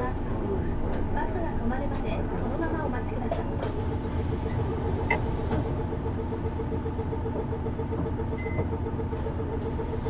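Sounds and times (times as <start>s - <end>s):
bus diesel engine rumbling: 0.0s - 10.0s.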